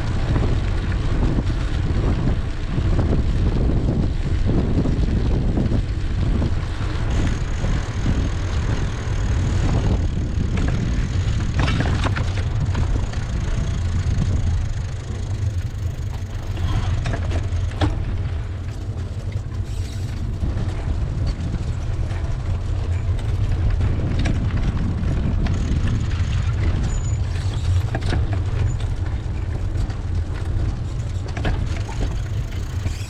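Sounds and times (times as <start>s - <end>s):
bicycle rattles and clicks: 0.0s - 33.0s
wind rumble on microphone: 0.0s - 33.0s.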